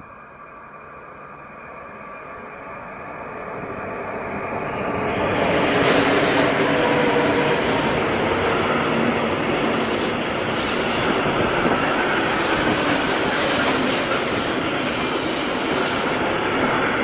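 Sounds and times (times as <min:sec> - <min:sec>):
freight train wheels rushing past: 0:02.2 - 0:17.0.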